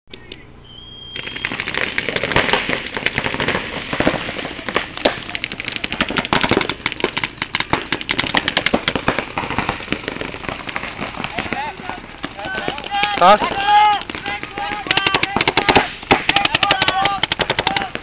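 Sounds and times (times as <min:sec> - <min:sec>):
paintball markers firing: 0:01.1 - 0:18.0.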